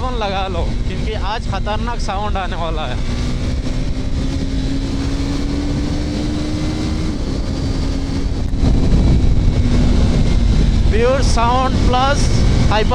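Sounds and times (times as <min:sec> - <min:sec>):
motorcycle engine accelerating: 0:00.0 - 0:12.9
wind rushing over microphone: 0:00.0 - 0:12.9.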